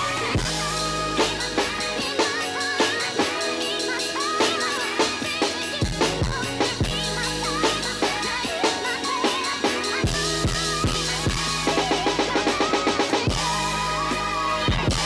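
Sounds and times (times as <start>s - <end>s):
music with drum beat: 0.0s - 15.0s
rapid drum hits: 0.0s - 15.0s.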